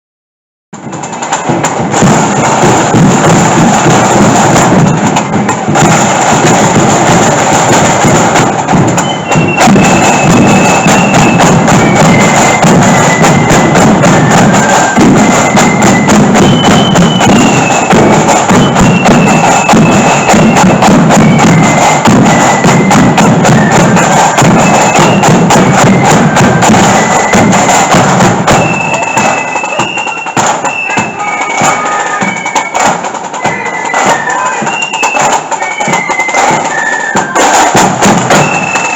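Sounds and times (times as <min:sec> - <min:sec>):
flute band melody: 0:00.8 - 0:38.9
snare and bass drum strokes: 0:00.8 - 0:38.9.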